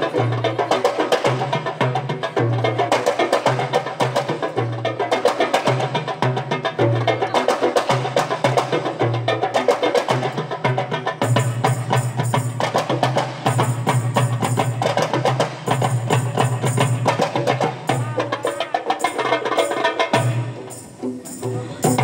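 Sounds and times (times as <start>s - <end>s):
small hand drums fast rhythm: 0.0s - 22.0s.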